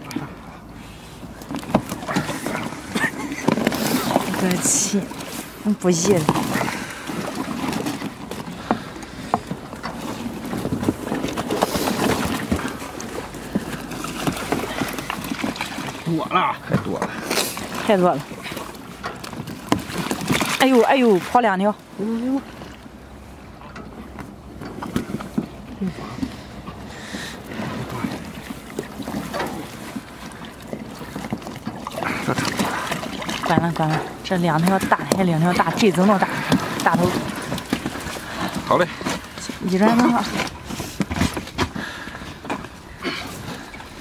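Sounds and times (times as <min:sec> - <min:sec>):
water splashing: 0:00.0 - 0:44.0
fish thrashing in net: 0:01.2 - 0:23.7, 0:24.4 - 0:44.0.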